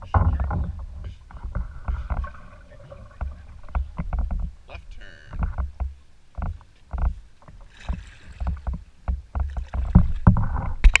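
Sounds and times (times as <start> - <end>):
paddle strokes: 0.0 - 11.0
water knocking against canoe hull: 0.0 - 11.0.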